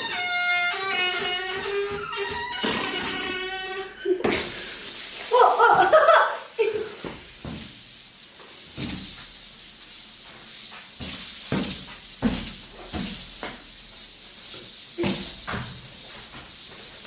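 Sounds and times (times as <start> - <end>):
steady high hiss: 0.1 - 17.0.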